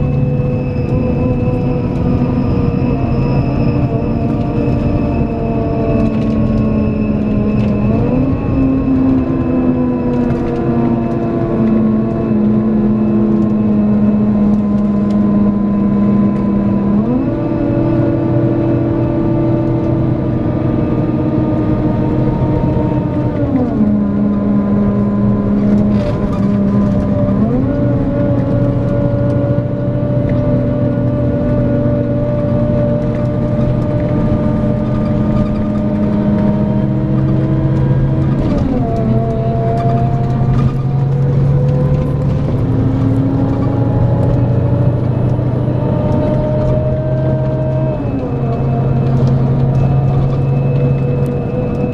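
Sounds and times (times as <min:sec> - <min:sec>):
coach diesel engine running: 0:00.0 - 0:51.9.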